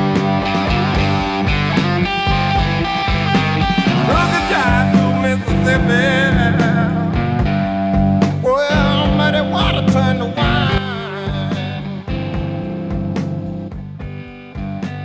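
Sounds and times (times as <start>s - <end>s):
bending guitar notes: 0.0s - 15.0s
rock music: 0.0s - 15.0s.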